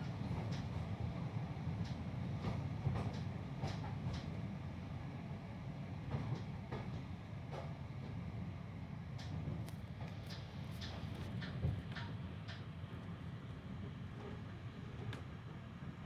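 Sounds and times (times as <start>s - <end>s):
train carriage rumbling on track: 0.0s - 16.0s.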